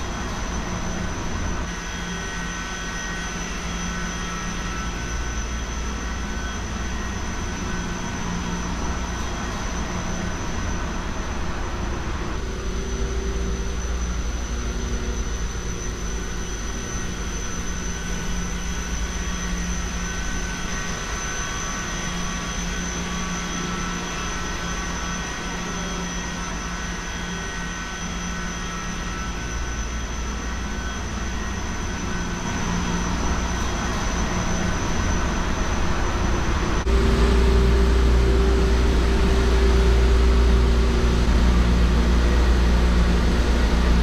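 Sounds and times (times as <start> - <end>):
high whine: 0.0 - 44.0
low machinery hum: 0.0 - 44.0.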